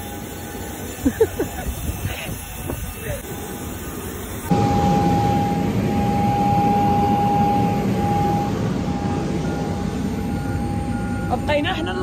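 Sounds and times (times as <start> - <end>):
jet turbine rumble and whine: 0.0 - 12.0.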